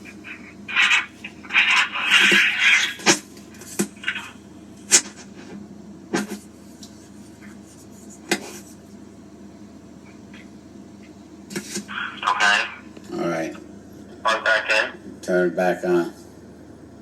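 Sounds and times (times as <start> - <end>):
low phone line hum: 0.0 - 17.0.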